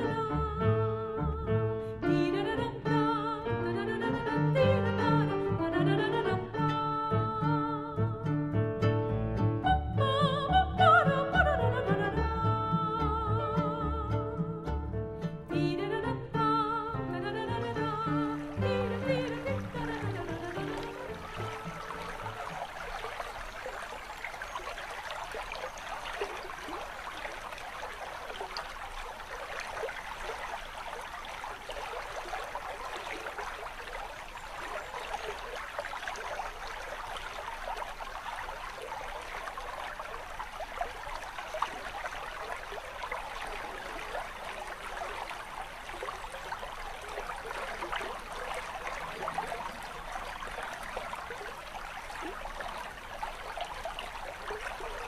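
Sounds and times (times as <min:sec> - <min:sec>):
brook trickling over stones: 0:00.0 - 0:08.1, 0:10.0 - 0:55.0.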